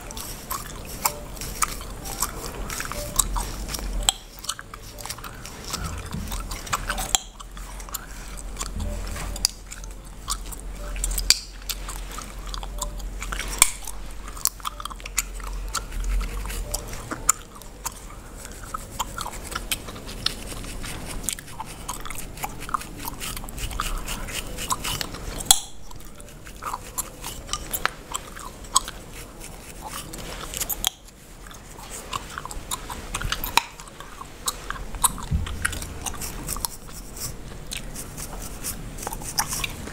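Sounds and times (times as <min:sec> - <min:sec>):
comb scratching scalp: 0:00.0 - 0:39.9
wet gum chewing: 0:00.0 - 0:39.9.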